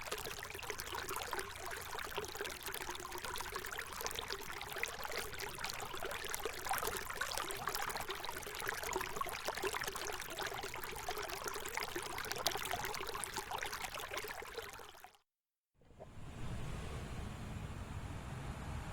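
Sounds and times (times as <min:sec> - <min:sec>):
water flowing and pouring: 0:00.0 - 0:15.2.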